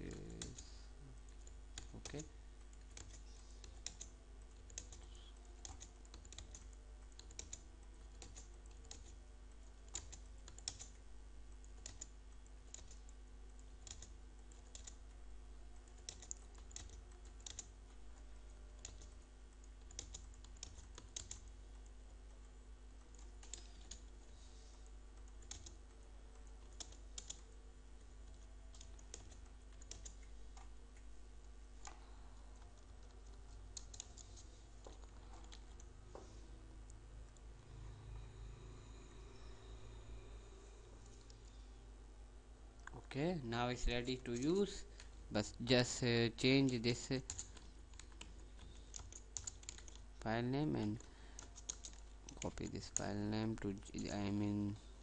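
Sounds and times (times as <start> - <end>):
keyboard typing: 0.0 - 36.0, 43.8 - 54.6
steady low hum: 0.0 - 55.0.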